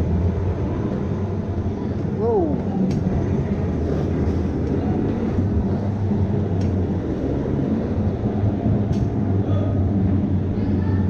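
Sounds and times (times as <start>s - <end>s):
rushing noise: 0.0s - 11.0s.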